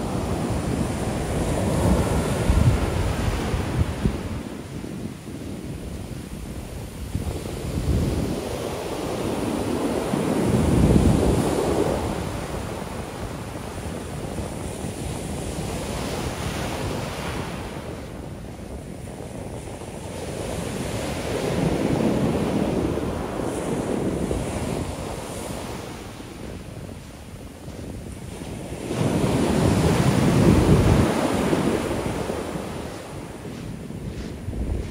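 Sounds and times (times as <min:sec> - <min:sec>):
waves crashing on sand: 0:00.0 - 0:34.9.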